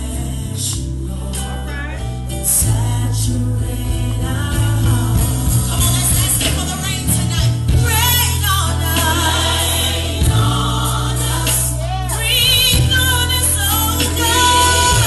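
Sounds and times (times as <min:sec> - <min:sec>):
gospel choir singing: 0:00.0 - 0:15.0
low bass accompaniment: 0:00.0 - 0:15.0.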